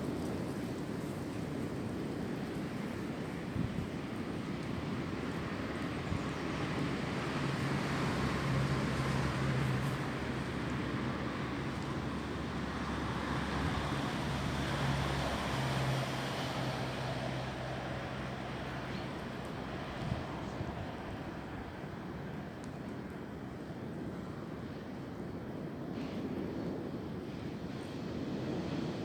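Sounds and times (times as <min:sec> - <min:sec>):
wind through tree branches: 0:00.0 - 0:29.0.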